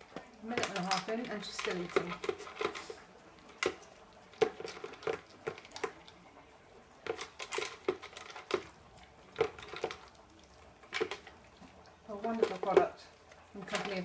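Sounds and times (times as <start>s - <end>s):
dog crunching dry kibble: 0.0s - 14.0s.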